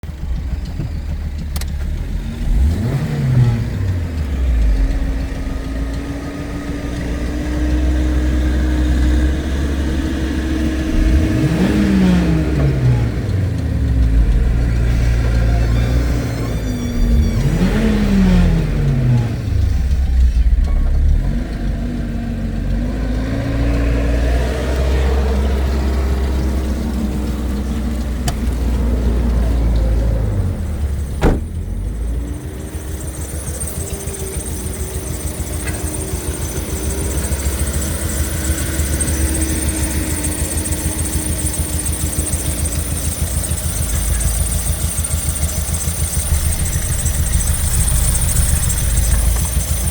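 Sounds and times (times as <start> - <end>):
car engine revving and idling: 0.0 - 49.9.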